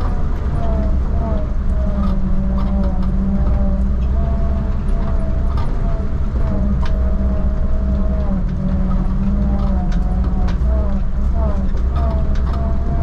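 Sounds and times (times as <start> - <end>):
car engine and road noise: 0.0 - 13.0
faint whine: 0.0 - 13.0.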